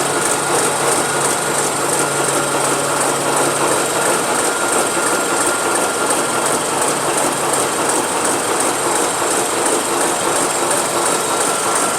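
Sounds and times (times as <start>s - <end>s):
marine diesel engine clattering: 0.0s - 11.9s.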